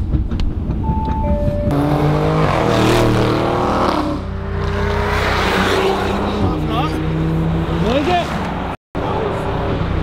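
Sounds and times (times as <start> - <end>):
car engine revving: 0.5 - 10.0.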